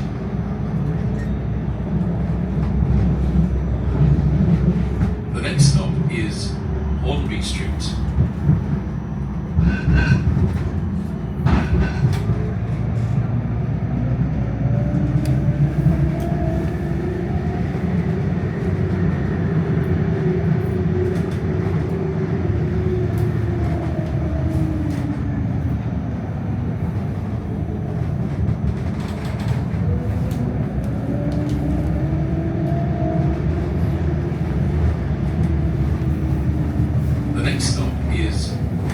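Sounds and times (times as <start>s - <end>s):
tram wheels rumbling on rails: 0.0s - 38.9s.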